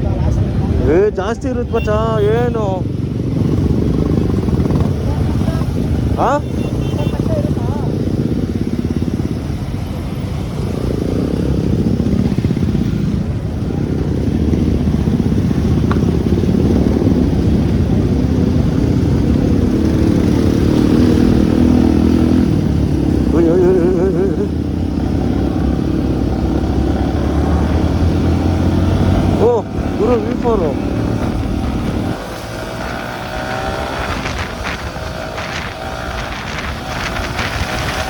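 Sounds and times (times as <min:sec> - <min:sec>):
motorcycle engines running: 0:00.0 - 0:38.0.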